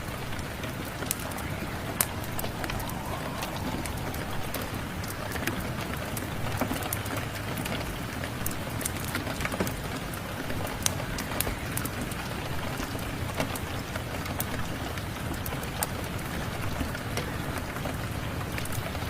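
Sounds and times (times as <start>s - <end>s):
steady rain: 0.0s - 19.0s
wood fire crackling: 0.0s - 19.0s.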